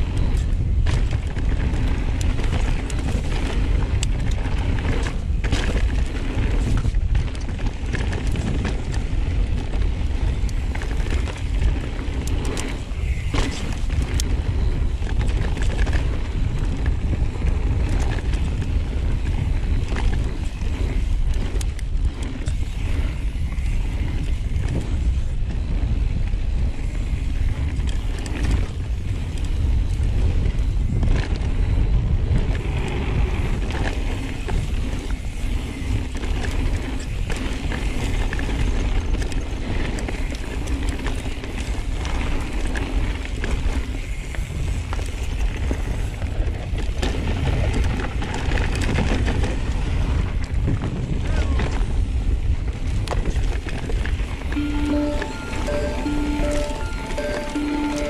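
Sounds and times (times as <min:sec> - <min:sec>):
bike rattling over bumps: 0:00.0 - 0:54.6
bike tyres rolling over dirt: 0:00.0 - 0:54.6
wind rumble on microphone: 0:00.0 - 0:58.0.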